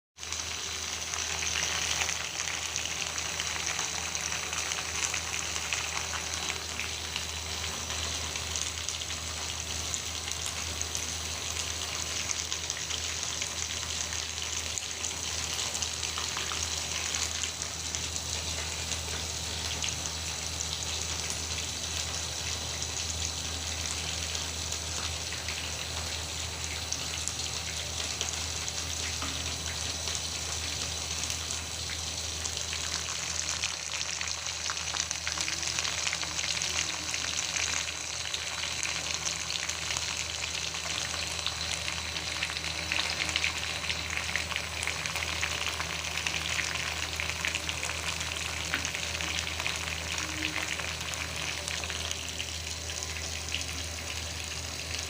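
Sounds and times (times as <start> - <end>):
food sizzling in hot oil: 0.2 - 55.0.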